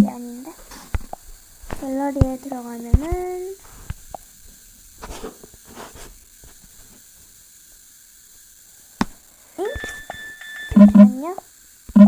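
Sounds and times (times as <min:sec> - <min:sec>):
soft hissing swells: 0:00.1 - 0:11.9.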